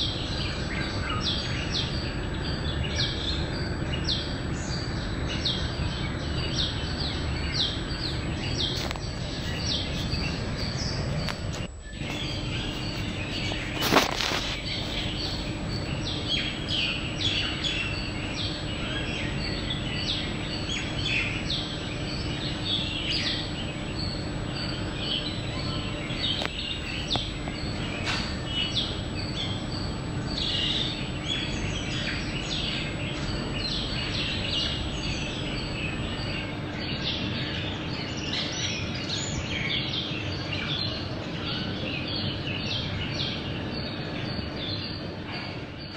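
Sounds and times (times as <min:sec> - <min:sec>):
birds chirping: 0:00.0 - 0:45.9
steady low hum: 0:00.0 - 0:45.9.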